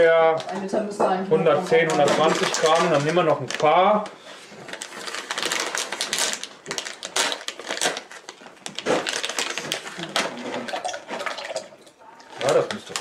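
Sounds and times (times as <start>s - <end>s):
plastic packet crinkling: 1.6s - 13.0s.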